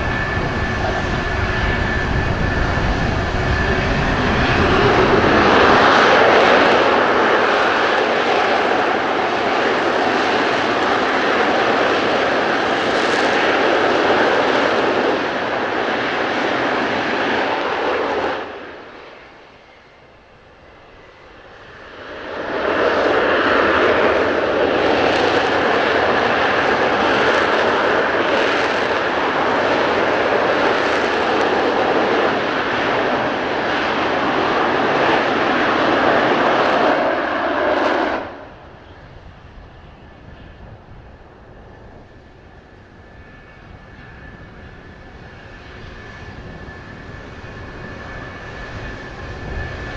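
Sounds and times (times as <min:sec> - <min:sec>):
loud jet engine roar: 0:00.0 - 0:49.9.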